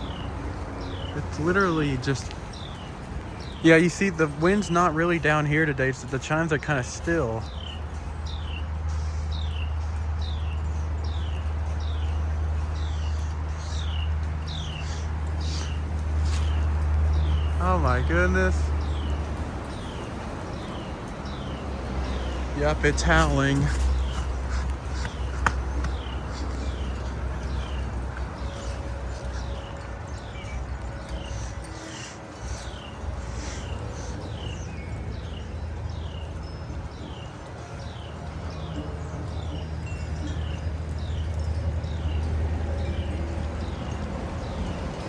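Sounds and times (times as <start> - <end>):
bird chirping: 0.0 - 8.7, 12.8 - 45.0
wind rumble on microphone: 7.4 - 45.0.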